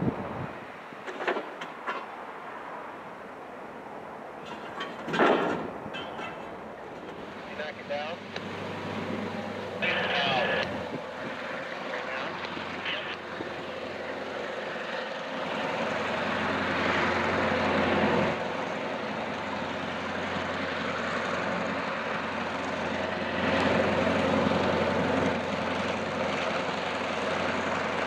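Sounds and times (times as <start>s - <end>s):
diesel locomotive engine running: 4.4s - 28.0s.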